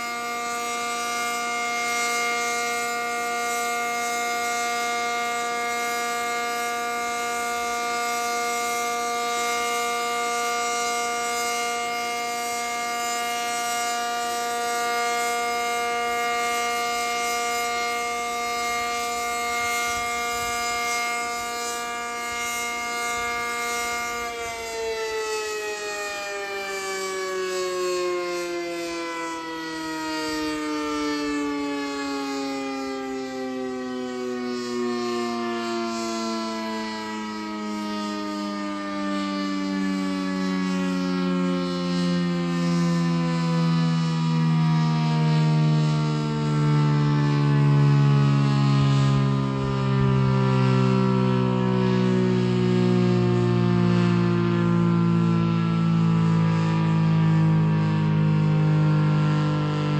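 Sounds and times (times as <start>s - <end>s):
warning siren single-pitch tone: 0.0s - 59.9s.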